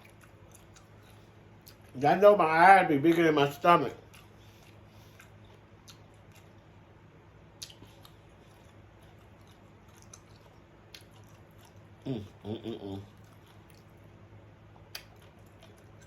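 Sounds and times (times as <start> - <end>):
person chewing: 0.0 - 2.0, 3.9 - 6.9, 7.5 - 16.0.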